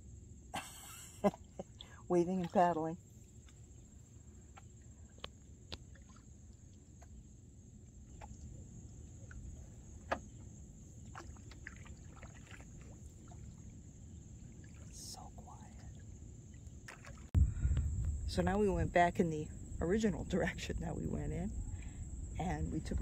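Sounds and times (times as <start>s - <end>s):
faint low rumble: 0.0s - 23.0s.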